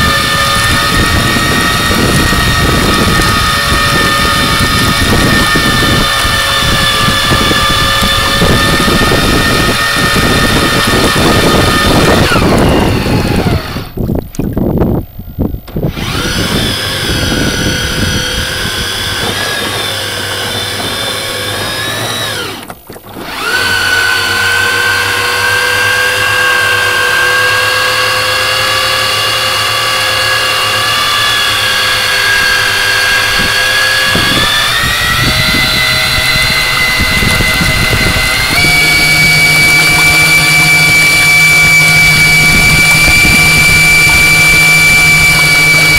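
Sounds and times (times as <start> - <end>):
boat motor whining: 0.0 - 45.9
water noise: 0.0 - 45.9
wind noise: 0.0 - 45.9.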